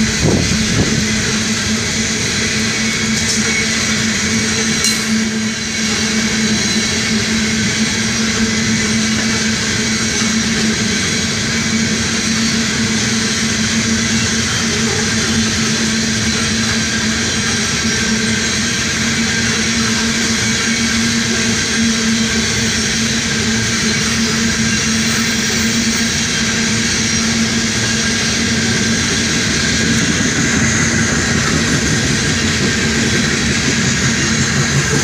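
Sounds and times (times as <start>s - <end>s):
train wheels rolling on rails: 0.0s - 35.0s.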